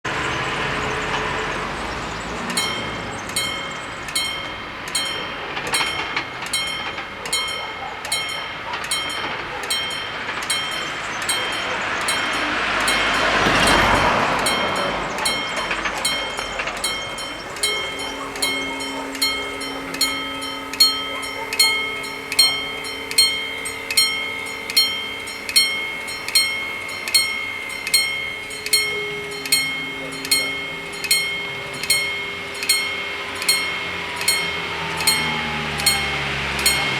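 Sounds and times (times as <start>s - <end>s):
level crossing warning bells: 0.0s - 36.9s.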